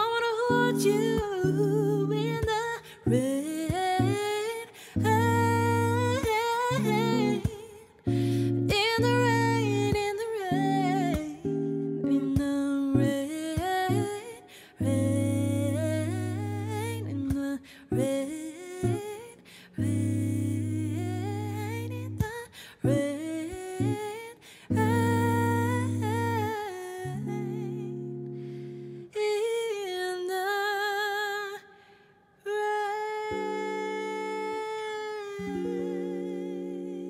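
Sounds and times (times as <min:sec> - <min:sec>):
electric guitar chords: 0:00.0 - 0:29.1, 0:33.2 - 0:37.0.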